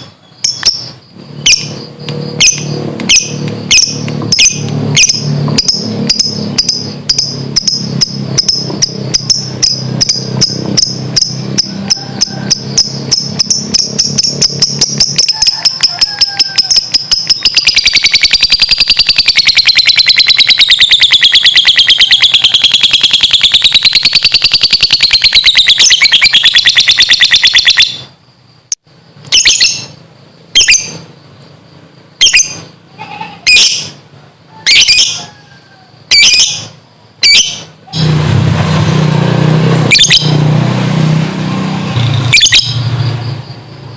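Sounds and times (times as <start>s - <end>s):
lovebird trilling song: 0.0s - 28.1s, 29.2s - 31.1s, 32.2s - 34.0s, 34.6s - 35.2s, 36.0s - 38.1s, 42.1s - 43.6s.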